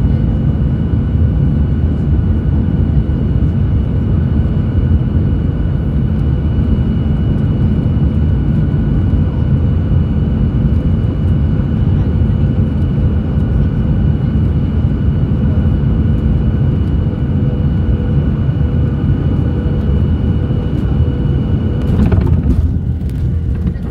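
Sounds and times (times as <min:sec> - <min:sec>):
airliner cabin rumble: 0:00.0 - 0:23.9.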